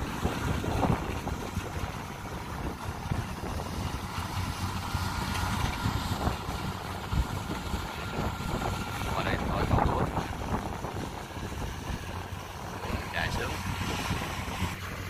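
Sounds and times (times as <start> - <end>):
diesel engine running under load: 0.0 - 15.0
wind buffeting microphone: 0.0 - 15.0.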